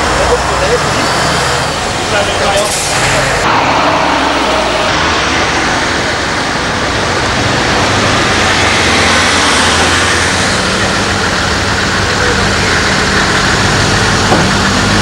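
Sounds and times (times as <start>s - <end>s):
diesel truck driving past: 0.0s - 15.0s
loud rush of noise: 0.0s - 15.0s.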